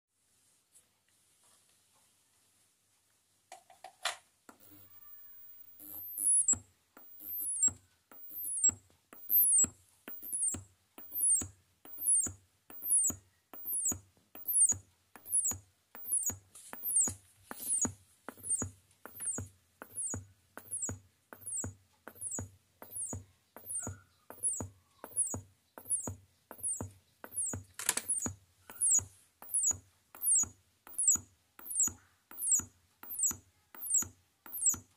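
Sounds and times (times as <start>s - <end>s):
high chirp falling in steps: 4.5s - 34.9s
speaker clicks: 4.5s - 34.9s.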